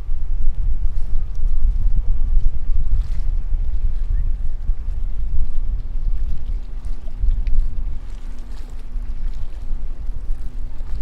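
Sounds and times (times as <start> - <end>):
faint steady hum: 0.0 - 11.0
wind buffeting microphone: 0.0 - 11.0.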